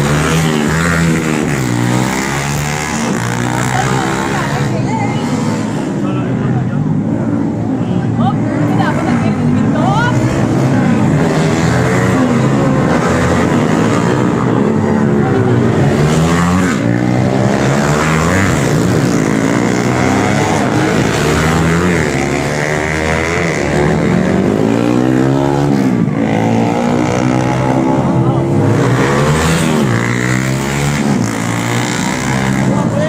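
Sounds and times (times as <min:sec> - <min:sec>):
racing motorcycle engines revving: 0:00.0 - 0:33.0.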